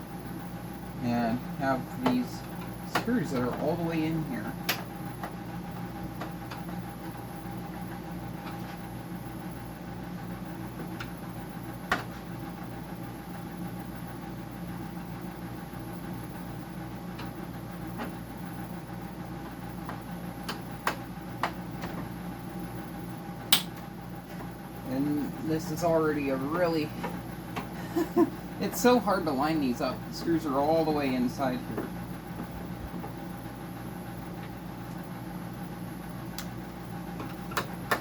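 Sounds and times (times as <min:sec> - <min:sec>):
dehumidifier compressor and fan hum: 0:00.0 - 0:38.0.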